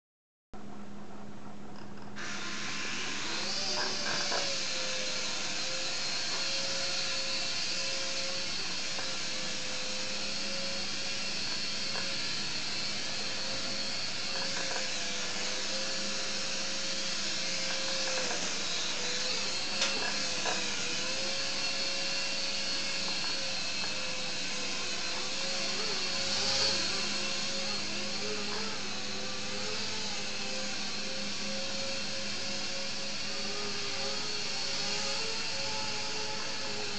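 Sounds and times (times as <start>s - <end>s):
toy helicopter motor whine: 1.9s - 36.9s.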